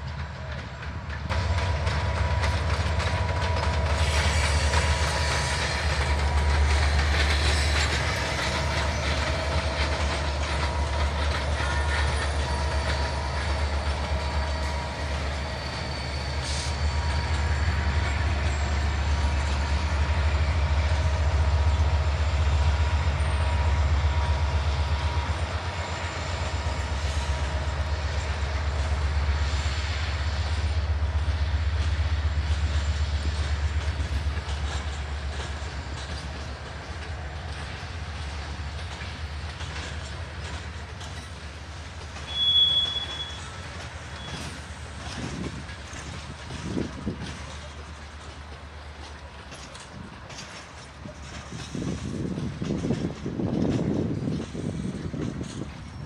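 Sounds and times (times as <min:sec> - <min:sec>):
diesel locomotives rumbling: 0:00.0 - 0:56.0.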